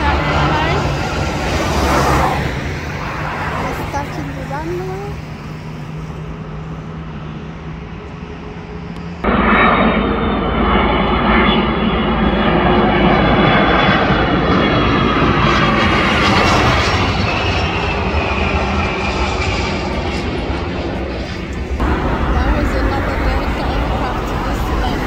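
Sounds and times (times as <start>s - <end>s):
roadside background noise: 0.0s - 9.6s, 14.0s - 25.0s
jet airliner passing overhead: 0.0s - 25.0s.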